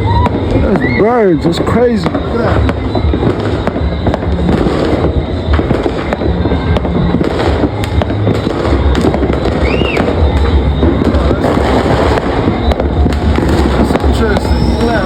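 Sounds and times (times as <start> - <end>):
firework whistle: 0.0 - 15.0
fireworks crackling and popping: 0.0 - 15.0.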